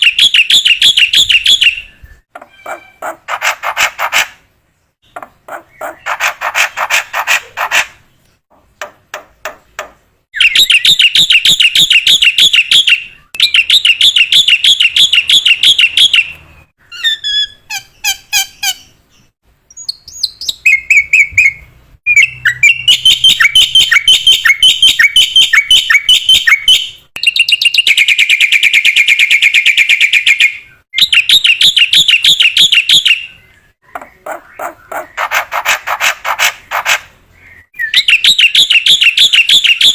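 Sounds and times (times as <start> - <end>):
bird singing rapid notes: 0.0 - 39.9.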